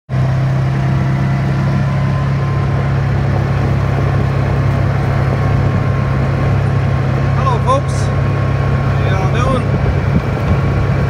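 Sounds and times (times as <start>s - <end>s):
utility vehicle engine running: 0.1s - 11.0s.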